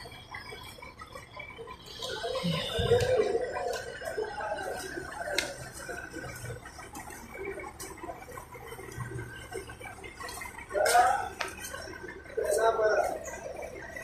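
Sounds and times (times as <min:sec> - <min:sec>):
faint diesel engine hum: 0:00.0 - 0:14.0.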